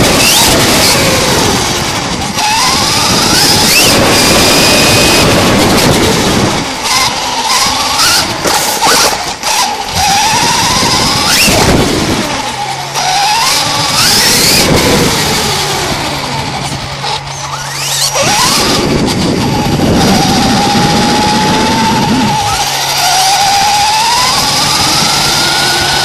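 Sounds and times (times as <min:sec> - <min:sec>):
electric motor whining: 0:00.0 - 0:26.0
wind: 0:00.0 - 0:26.0.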